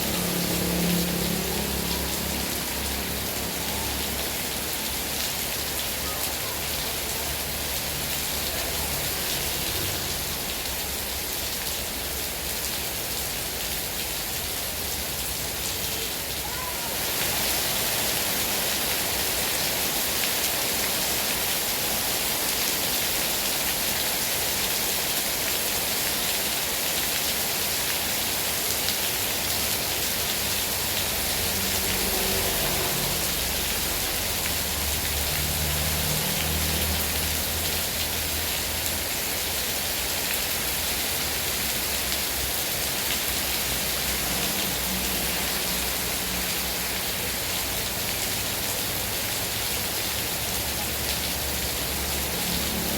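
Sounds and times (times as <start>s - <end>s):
heavy rain hiss: 0.0s - 52.9s.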